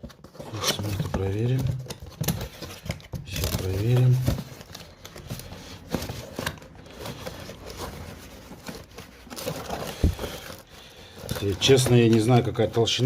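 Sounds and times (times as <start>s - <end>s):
paper and cardboard rustling: 0.0s - 13.0s.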